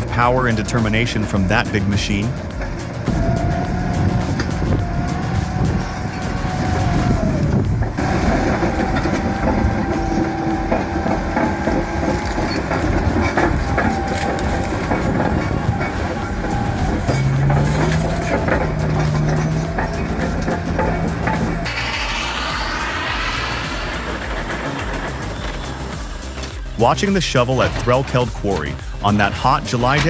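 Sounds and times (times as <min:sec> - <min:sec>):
heavy machinery rattling: 0:00.0 - 0:30.0
metallic clanking: 0:00.0 - 0:30.0.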